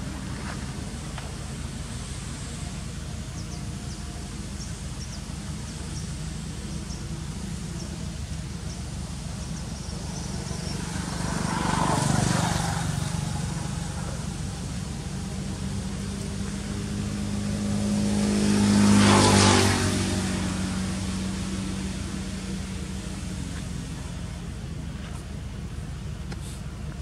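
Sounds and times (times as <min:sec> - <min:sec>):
motor vehicle passing by: 0:00.0 - 0:25.8.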